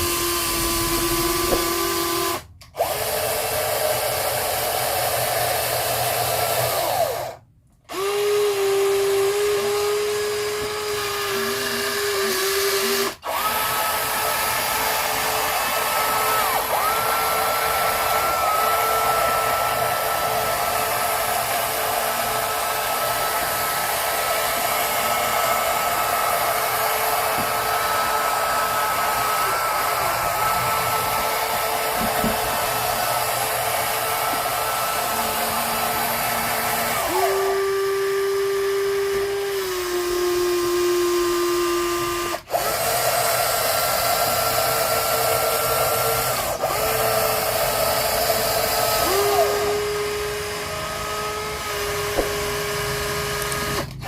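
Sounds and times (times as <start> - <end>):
toy electric motors whining: 0.0 - 54.0.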